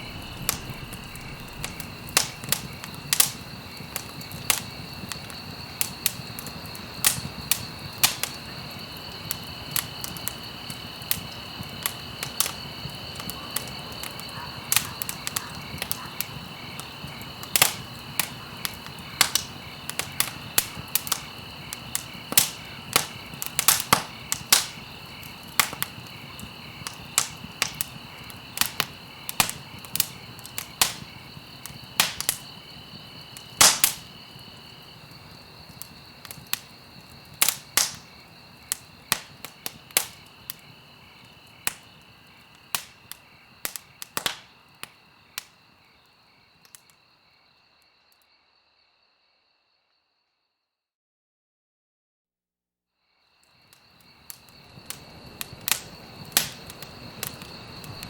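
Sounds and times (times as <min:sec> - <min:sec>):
campfire crackling and popping: 0:00.0 - 0:46.0, 0:53.5 - 0:58.0.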